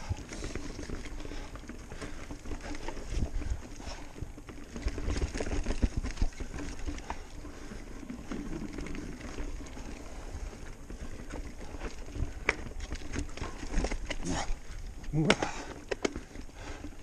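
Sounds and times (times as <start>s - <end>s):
mountain bike rattling on trail: 0.0s - 17.0s
wheels thumping on roots and rocks: 0.0s - 17.0s.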